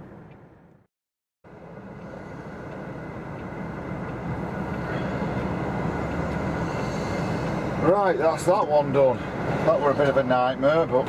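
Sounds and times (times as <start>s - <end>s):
road rumble: 0.0s - 11.0s
truck diesel engine: 1.5s - 11.0s.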